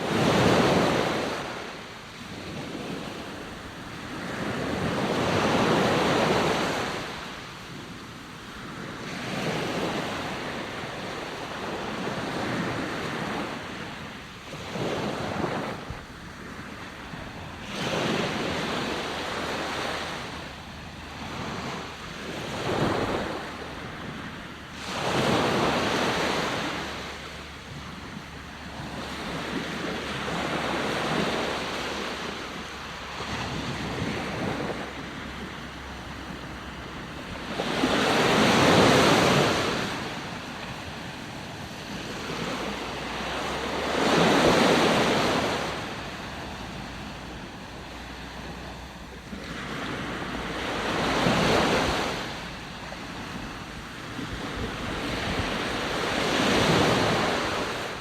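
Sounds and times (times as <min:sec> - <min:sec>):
ocean waves breaking: 0:00.0 - 0:58.0
wind: 0:00.0 - 0:58.0.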